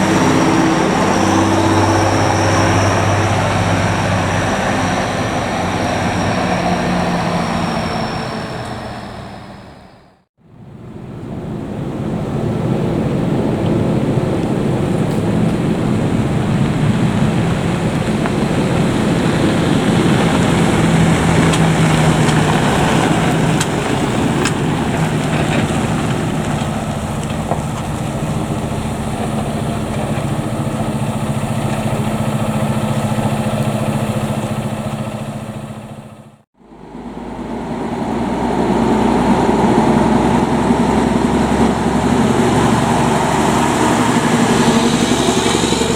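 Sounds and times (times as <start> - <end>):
fire truck engine running: 0.0 - 45.9
road noise: 0.0 - 45.9.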